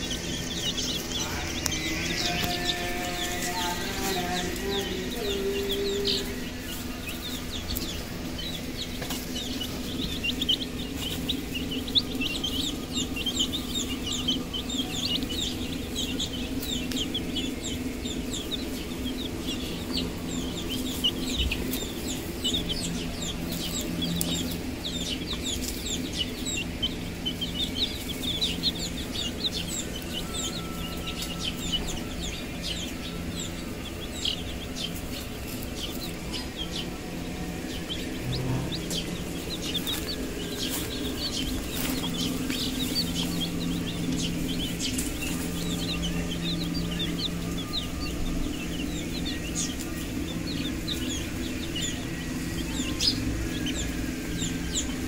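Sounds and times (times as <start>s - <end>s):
chicks peeping: 0.0s - 55.0s
steady low hum: 0.0s - 55.0s.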